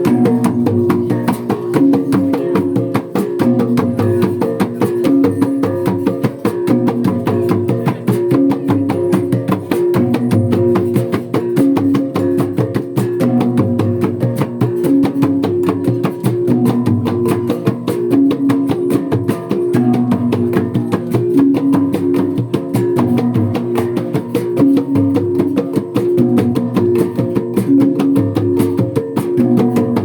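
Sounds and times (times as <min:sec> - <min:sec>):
rapid struck beat: 0:00.0 - 0:30.0.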